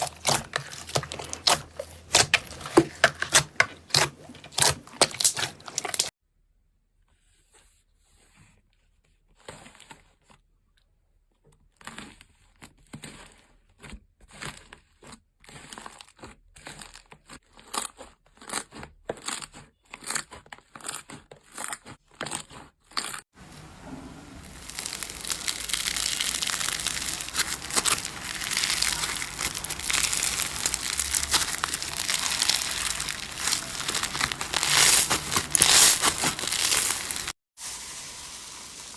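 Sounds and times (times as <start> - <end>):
continuous crinkling crackle: 0.0 - 6.2, 11.3 - 37.4.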